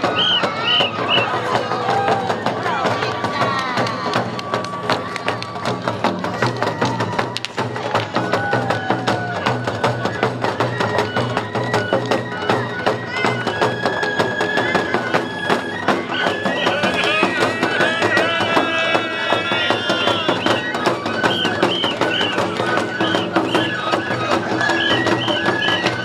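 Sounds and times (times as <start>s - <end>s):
fast steady drumming: 0.0s - 26.0s
shrill bamboo flute: 0.0s - 26.0s.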